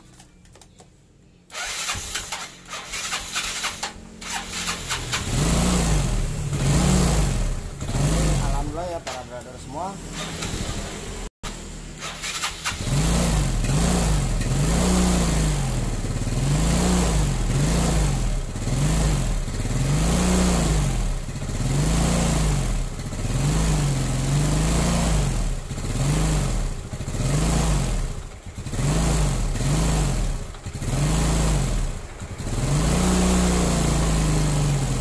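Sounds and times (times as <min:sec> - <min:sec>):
scooter engine revving: 0:01.5 - 0:35.0.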